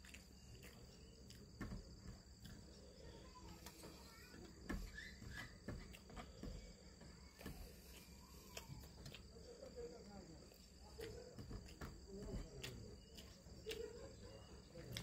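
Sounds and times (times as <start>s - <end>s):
soft chewing: 0.0s - 4.5s, 5.8s - 15.0s
faint insect drone: 0.0s - 15.0s.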